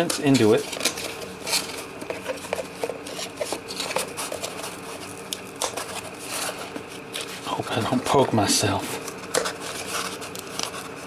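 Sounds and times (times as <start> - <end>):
cardboard rubbing and scraping: 0.3 - 7.6, 9.3 - 11.0.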